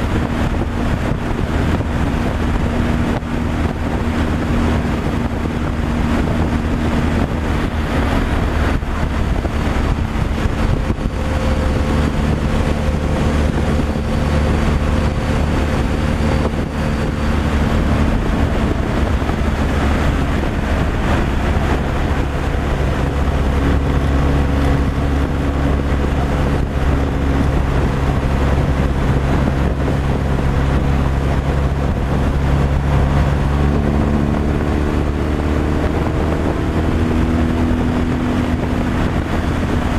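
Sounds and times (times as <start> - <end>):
truck engine running: 0.0 - 39.9
tyre and road noise: 0.0 - 39.9.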